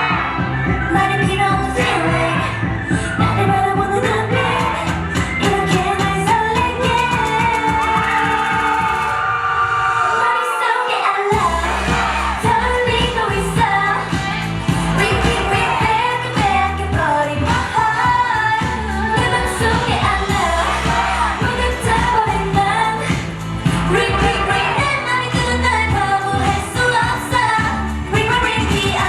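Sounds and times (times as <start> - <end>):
female group vocals singing: 0.0 - 9.0, 10.0 - 29.0
bass-heavy dance beat: 0.0 - 9.2, 11.3 - 29.0.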